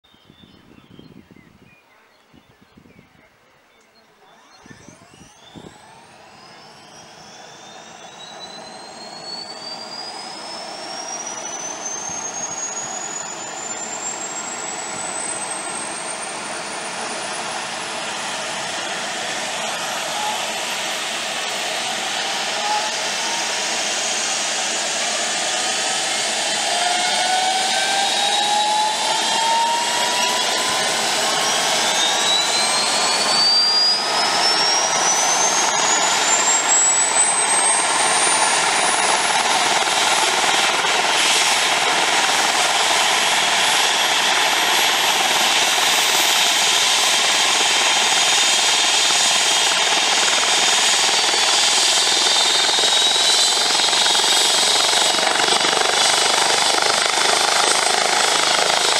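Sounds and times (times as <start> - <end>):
helicopter turbine whine rising: 4.1 - 58.9.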